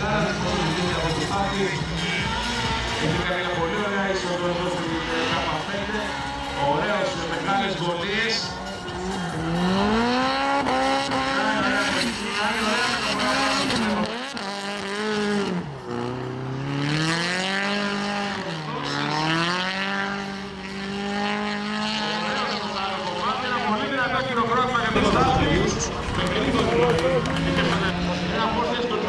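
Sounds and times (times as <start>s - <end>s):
car engine revving hard: 0.0s - 29.0s.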